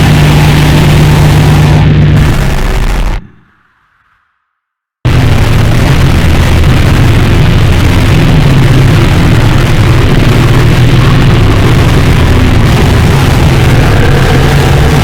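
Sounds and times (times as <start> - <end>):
harsh distorted noise music: 0.0 - 3.3, 5.1 - 15.0.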